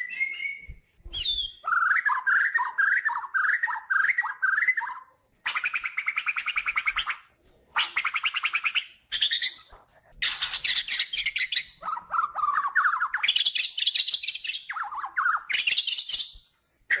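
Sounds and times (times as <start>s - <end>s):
bird singing trilled phrases: 0.0s - 7.2s, 7.8s - 17.0s.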